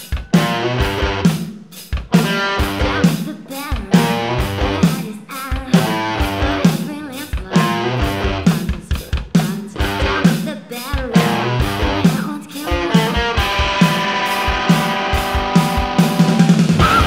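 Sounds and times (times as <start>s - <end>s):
drum kit beat: 0.0s - 17.0s
live rock band playing: 0.0s - 17.0s.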